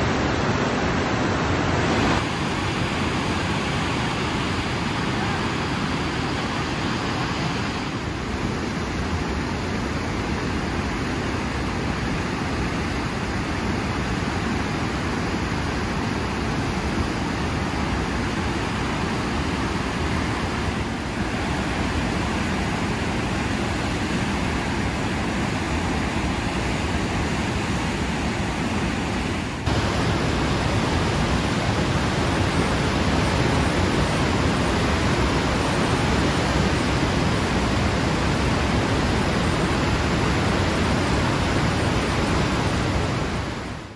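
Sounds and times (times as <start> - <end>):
whitewater rapids rushing: 0.0 - 43.9.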